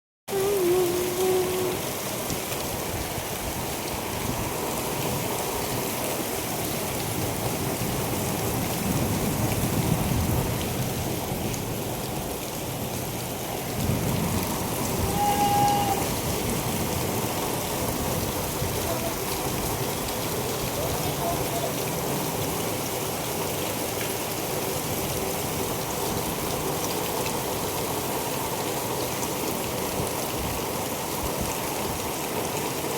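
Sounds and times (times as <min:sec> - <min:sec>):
heavy rain falling: 0:00.3 - 0:32.9.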